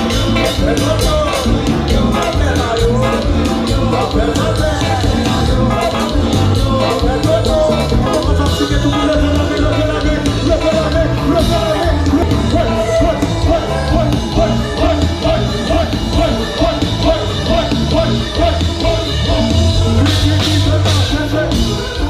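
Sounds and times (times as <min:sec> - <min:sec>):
live band with pulsing bass: 0:00.0 - 0:22.0
person singing lead vocal: 0:00.0 - 0:22.0.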